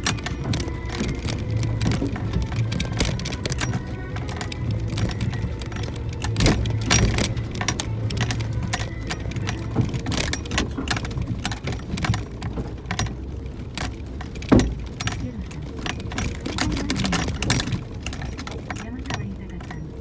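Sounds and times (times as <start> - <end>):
car engine running: 0.0 - 20.0
jangling rattles and clicks: 0.0 - 20.0.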